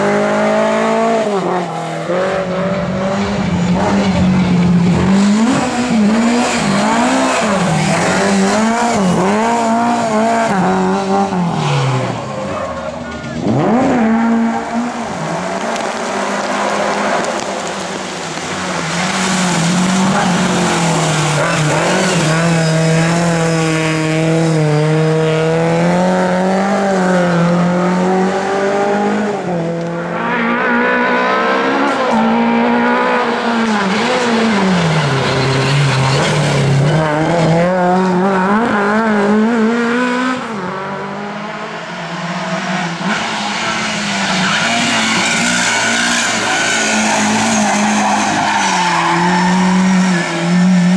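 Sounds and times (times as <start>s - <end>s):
racing car engines revving: 0.0s - 50.9s.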